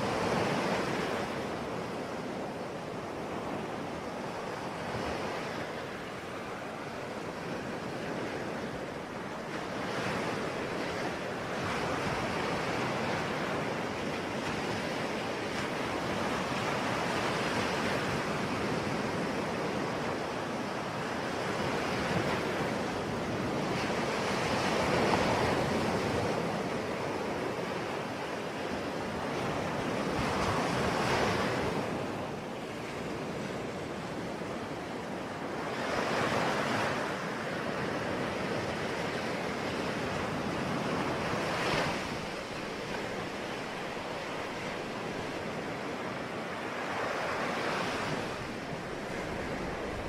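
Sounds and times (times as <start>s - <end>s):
ocean waves breaking on shore: 0.0s - 50.0s.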